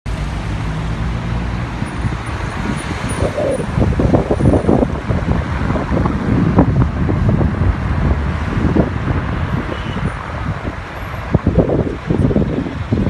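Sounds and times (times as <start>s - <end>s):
road traffic: 0.0s - 13.0s
car engine hum: 0.1s - 13.0s
wind buffeting microphone: 0.4s - 13.0s.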